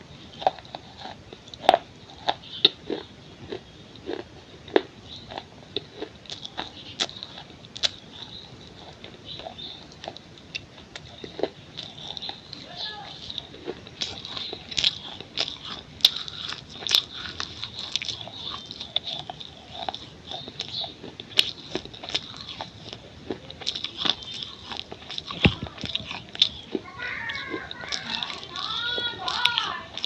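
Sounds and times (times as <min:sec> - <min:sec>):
clay being chewed crunching: 0:00.2 - 0:30.0.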